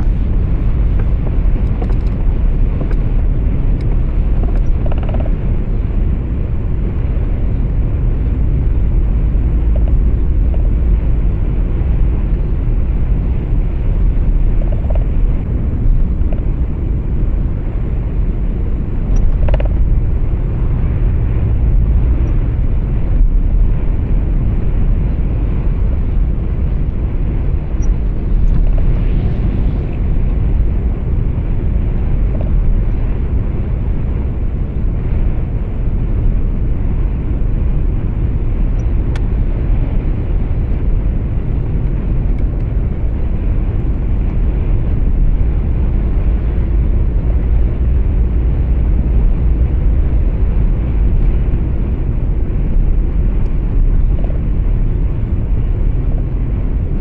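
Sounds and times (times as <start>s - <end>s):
truck road and engine rumble: 0.0s - 57.0s.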